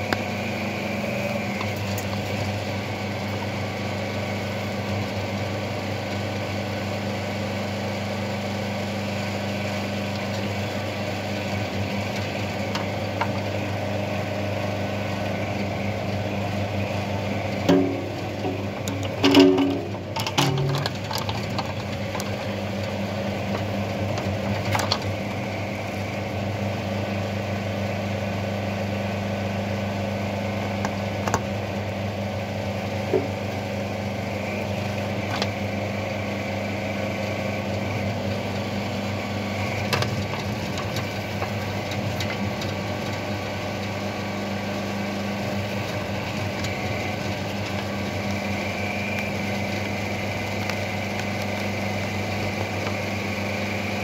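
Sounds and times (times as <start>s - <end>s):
electric motor and hydraulic pump hum: 0.0s - 54.0s.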